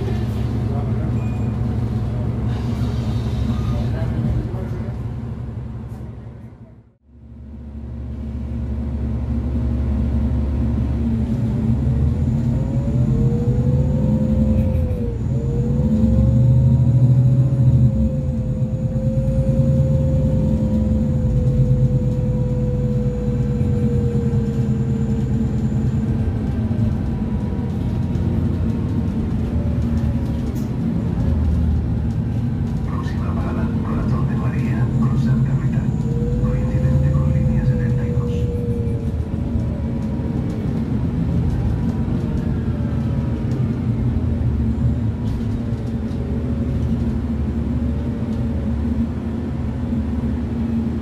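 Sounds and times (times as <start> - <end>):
bus engine rumble: 0.0 - 51.0.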